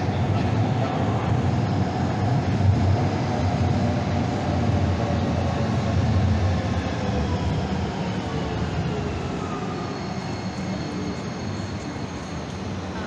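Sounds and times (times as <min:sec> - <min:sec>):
light-rail train rumbling: 0:00.0 - 0:13.0.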